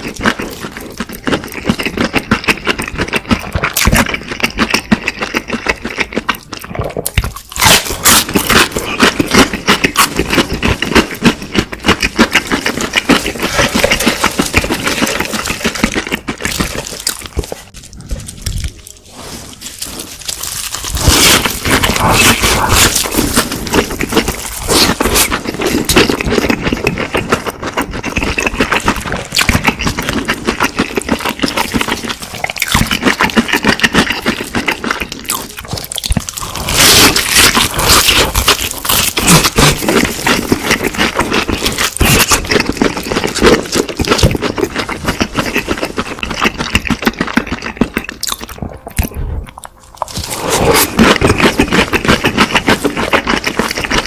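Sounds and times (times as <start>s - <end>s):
crunching crispy fried chicken: 0.0s - 54.0s
wet chewing: 0.0s - 54.0s.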